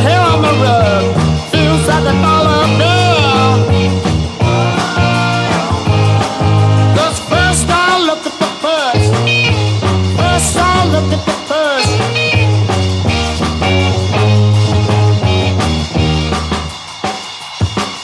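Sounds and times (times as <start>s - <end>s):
rhythm and blues band record: 0.0s - 18.0s.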